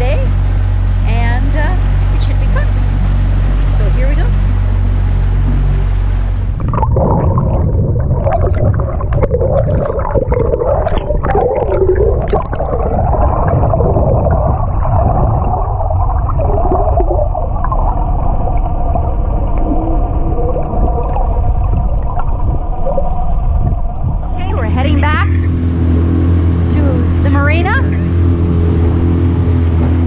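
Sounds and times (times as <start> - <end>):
low rumble: 0.0 - 30.0
underwater water rushing and gurgling: 0.0 - 30.0
wavering tones settling into hum: 0.0 - 30.0.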